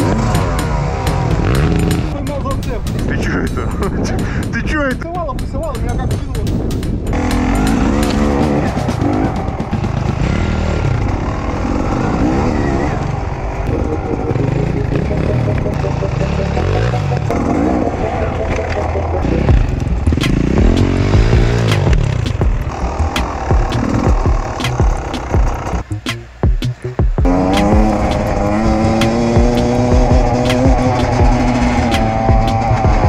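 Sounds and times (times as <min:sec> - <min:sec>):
motorcycle engines revving: 0:00.0 - 0:05.0, 0:05.6 - 0:33.0.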